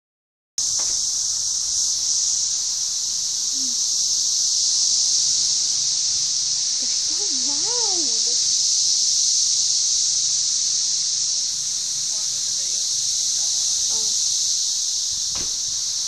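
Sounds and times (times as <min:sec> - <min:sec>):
cicadas buzzing: 0:00.6 - 0:16.0.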